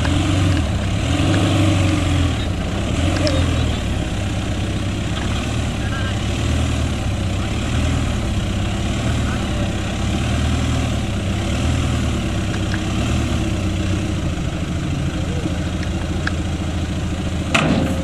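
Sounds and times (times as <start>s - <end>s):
truck engine running at low revs: 0.0s - 18.0s.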